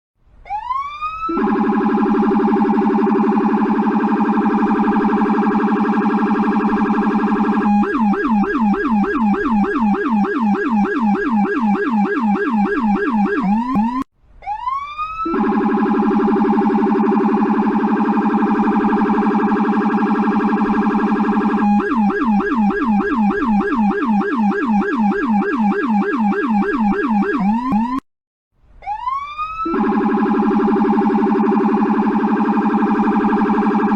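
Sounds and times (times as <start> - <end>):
police siren wailing and yelping: 0.5 - 28.0, 28.8 - 33.9.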